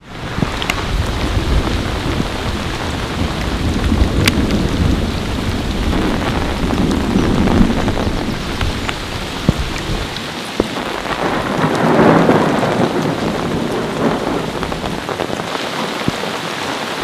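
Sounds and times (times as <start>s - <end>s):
heavy rain falling: 0.0s - 17.0s
raindrops ticking close by: 0.0s - 17.0s
thunder rumbling: 0.0s - 17.0s.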